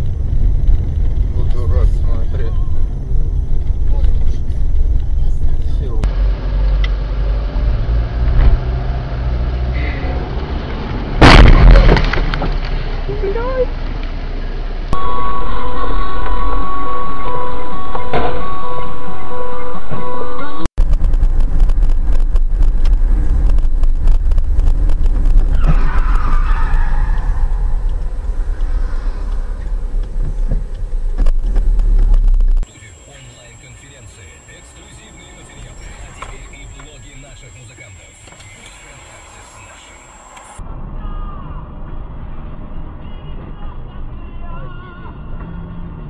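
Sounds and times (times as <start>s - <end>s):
tyres skidding: 0.0s - 40.6s
car engine and road rumble: 0.0s - 46.0s.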